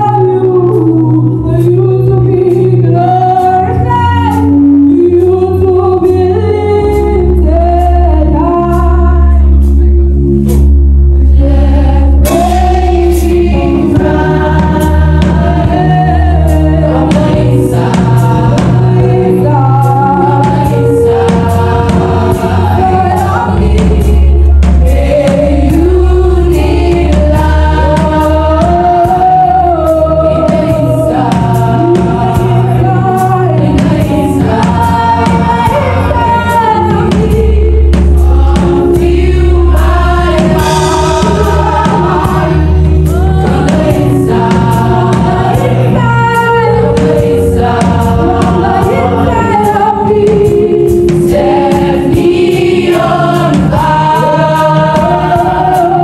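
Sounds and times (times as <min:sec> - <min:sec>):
choir singing gospel song: 0:00.0 - 0:56.0
live band with deep bass: 0:00.0 - 0:56.0.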